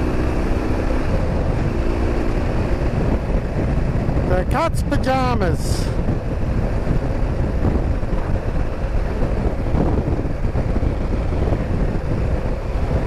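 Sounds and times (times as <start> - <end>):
motorcycle engine running: 0.0 - 13.0
wind rushing on microphone: 0.0 - 13.0.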